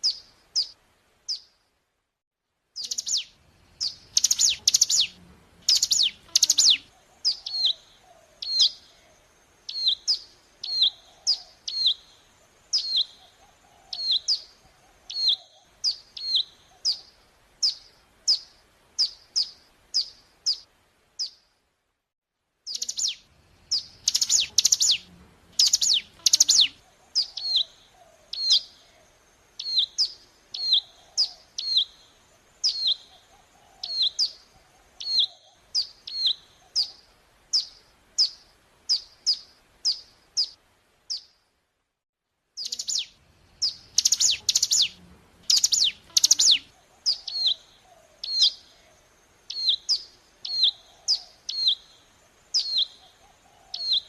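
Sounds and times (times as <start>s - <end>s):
bird song: 0.0s - 1.6s, 2.8s - 21.5s, 22.6s - 41.4s, 42.6s - 54.0s.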